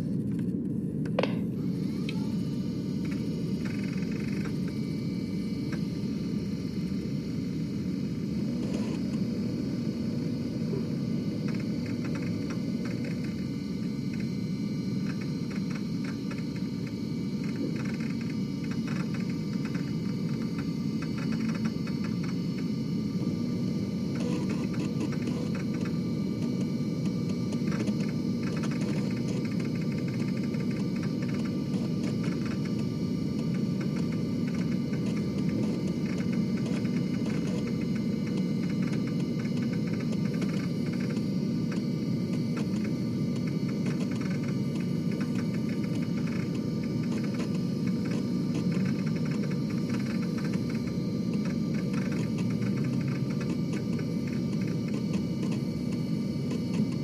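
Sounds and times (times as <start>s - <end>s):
floppy disk drive whirring: 0.0s - 57.0s.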